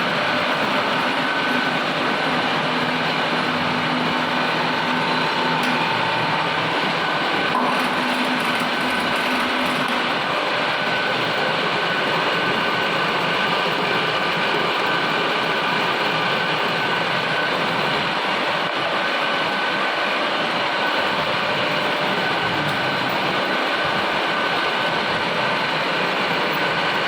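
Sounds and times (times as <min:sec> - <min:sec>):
milling machine cutting metal: 0:00.0 - 0:19.9, 0:20.5 - 0:27.0
steady whining tones: 0:00.0 - 0:27.0.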